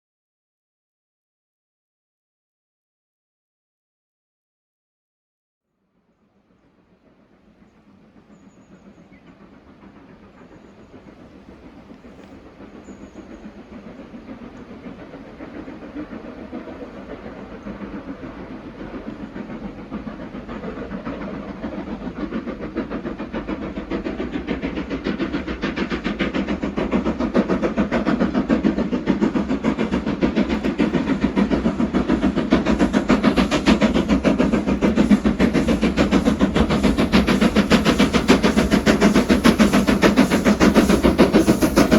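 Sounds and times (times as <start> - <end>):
steam locomotive chuffing: 6.1 - 41.9.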